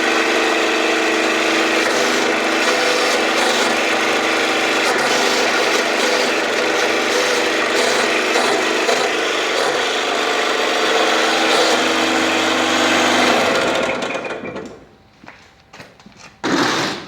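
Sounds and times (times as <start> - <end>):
machine motor running: 0.0 - 15.1.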